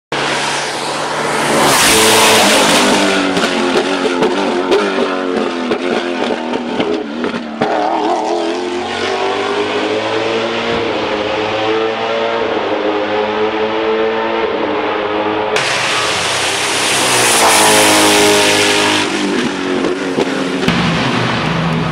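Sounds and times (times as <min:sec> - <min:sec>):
race car passing at speed: 0:00.1 - 0:20.6.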